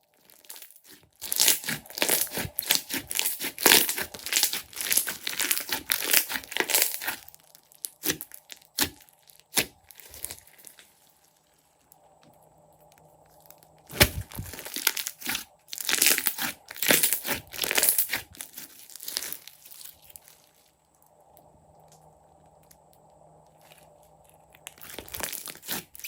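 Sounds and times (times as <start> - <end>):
slime crackling and popping: 0.2 - 11.4, 13.2 - 21.0, 23.6 - 26.0.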